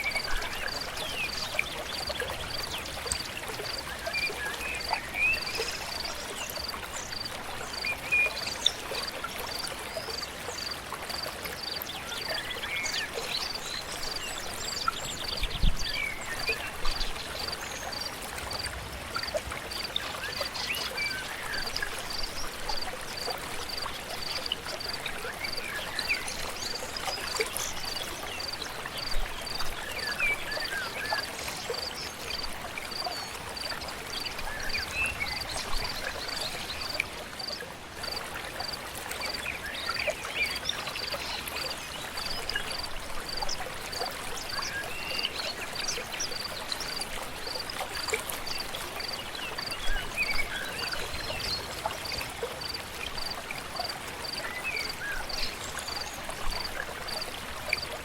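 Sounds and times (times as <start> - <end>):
river flowing: 0.0 - 58.0.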